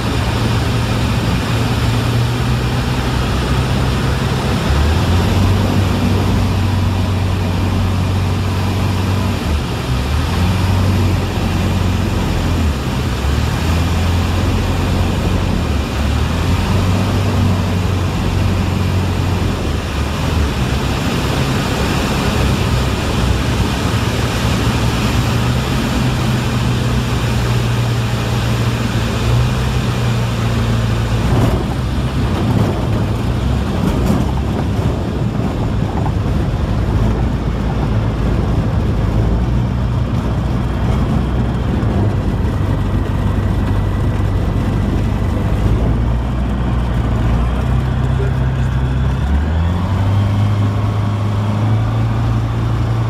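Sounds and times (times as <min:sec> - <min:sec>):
aeroplane engine and propeller droning: 0:00.0 - 0:53.0.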